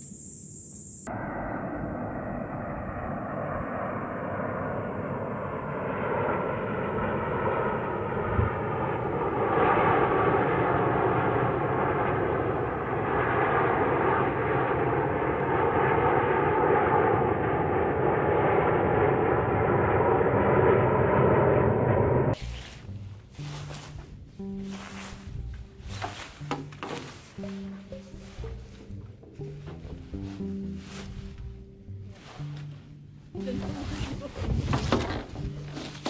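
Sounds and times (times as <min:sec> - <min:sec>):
aircraft engine drone: 0:00.0 - 0:36.0.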